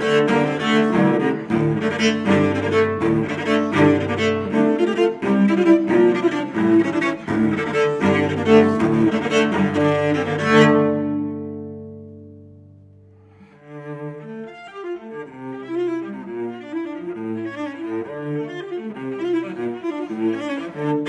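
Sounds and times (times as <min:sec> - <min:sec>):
solo cello bowed fast passage: 0:00.0 - 0:12.2, 0:13.2 - 0:21.0.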